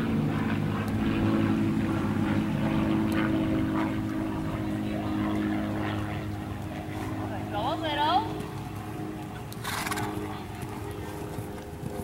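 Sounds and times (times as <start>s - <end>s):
motor running steadily: 0.0s - 12.0s.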